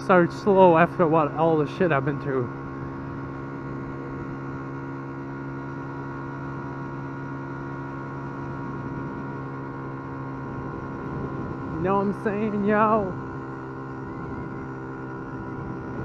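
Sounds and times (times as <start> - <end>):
motorcycle engine droning: 0.0 - 16.0.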